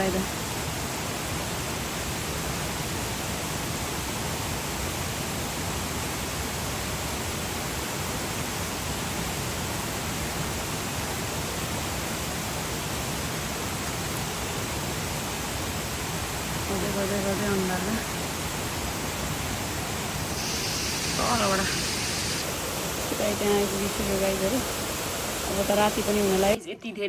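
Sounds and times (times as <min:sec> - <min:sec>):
mountain stream rushing: 0:00.3 - 0:26.6.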